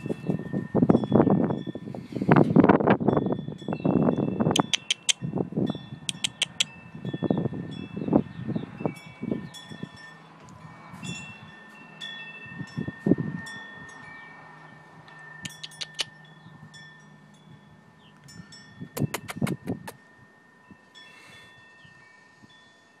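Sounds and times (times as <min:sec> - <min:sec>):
metal wind chimes ringing: 0:00.0 - 0:19.0, 0:19.8 - 0:23.0.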